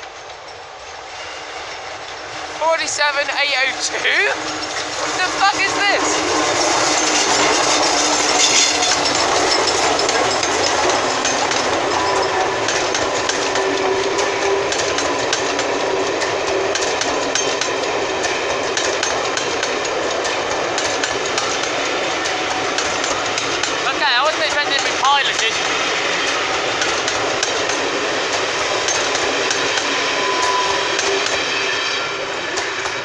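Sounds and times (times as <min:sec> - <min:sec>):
locomotives passing: 0:00.0 - 0:33.0
train coaches rumbling: 0:00.0 - 0:33.0
wheels clicking over rail joints: 0:01.7 - 0:33.0.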